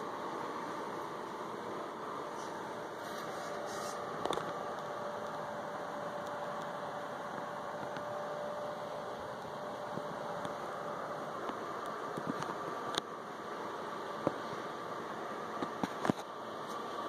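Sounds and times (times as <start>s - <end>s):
faint steady tone: 0.0s - 17.0s
room tone hum and hiss: 0.0s - 17.0s.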